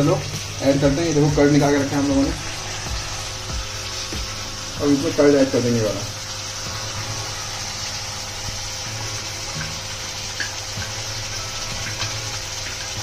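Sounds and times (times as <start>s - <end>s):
curry sizzling and bubbling: 0.0s - 13.0s.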